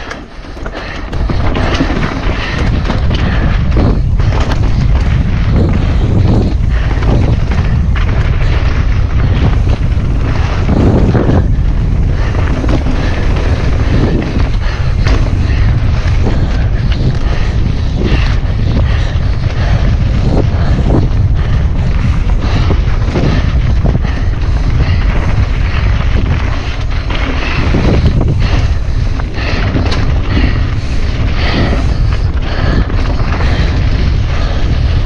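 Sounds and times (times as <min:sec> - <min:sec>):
bike rattling over bumps: 0:00.0 - 0:35.0
wind buffeting microphone: 0:00.0 - 0:35.0.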